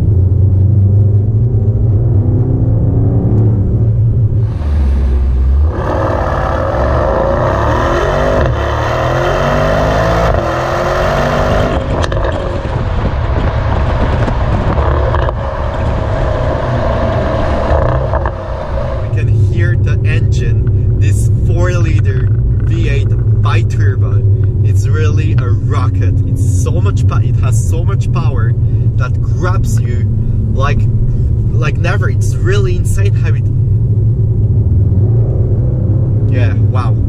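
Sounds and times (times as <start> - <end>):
car engine accelerating: 0.0 - 37.0
road noise: 0.0 - 37.0.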